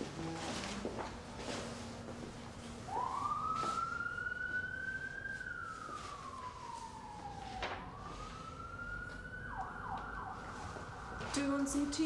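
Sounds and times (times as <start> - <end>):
emergency siren wailing: 0.1 - 12.0.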